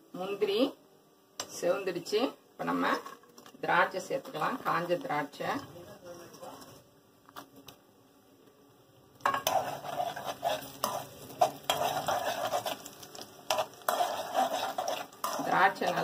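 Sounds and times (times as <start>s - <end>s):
light sizzle: 0.0s - 16.0s.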